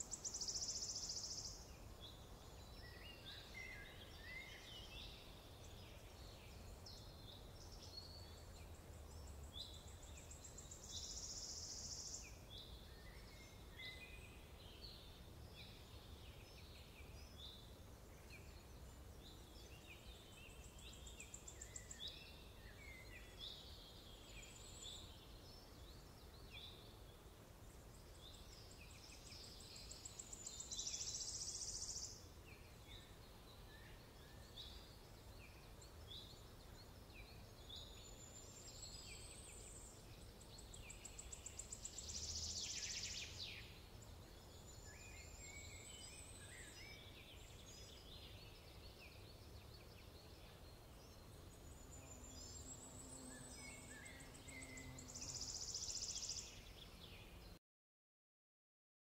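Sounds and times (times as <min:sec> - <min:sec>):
faint birds chirping: 0:00.0 - 0:57.6.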